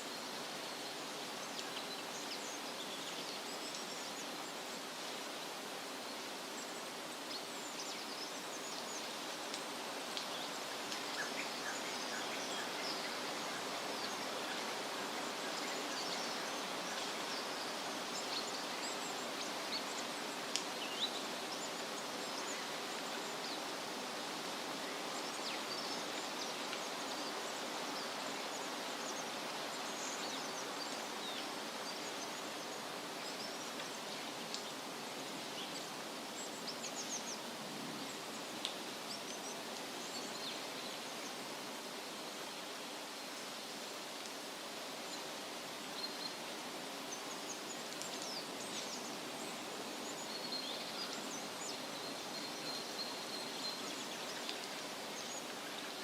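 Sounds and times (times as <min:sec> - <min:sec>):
wind rustling leaves: 0:00.0 - 0:56.0.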